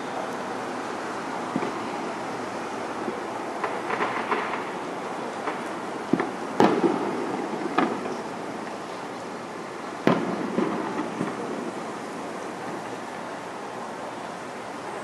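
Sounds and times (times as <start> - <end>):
distant fireworks bursting: 0.9 - 13.6.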